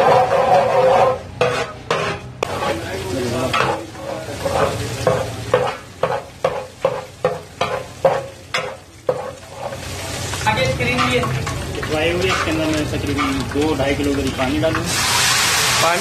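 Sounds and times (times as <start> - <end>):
metal ladle scraping pot: 0.0 - 9.9, 10.9 - 15.5
paste sizzling in hot oil: 0.0 - 16.0.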